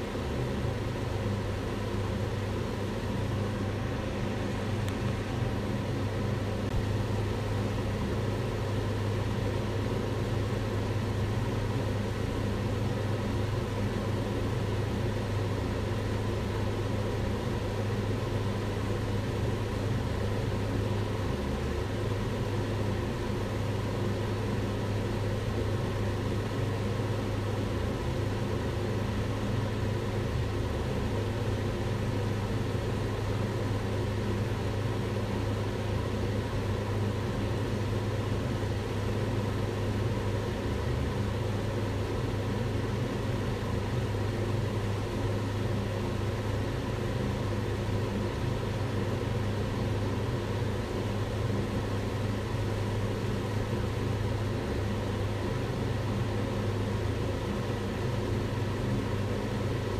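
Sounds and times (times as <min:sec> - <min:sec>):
range hood fan running: 0:00.0 - 0:59.9.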